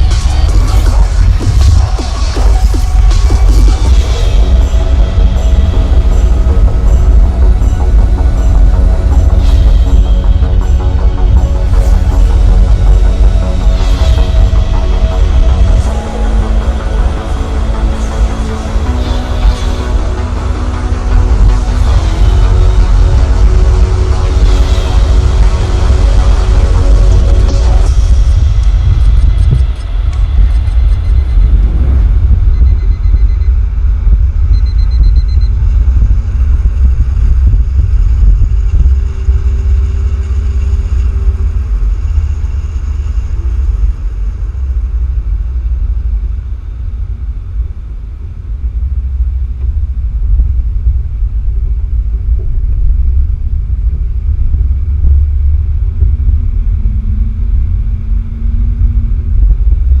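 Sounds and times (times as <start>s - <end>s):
faint steady whine: 0.0s - 60.0s
vehicle rumbling in motion: 0.0s - 60.0s.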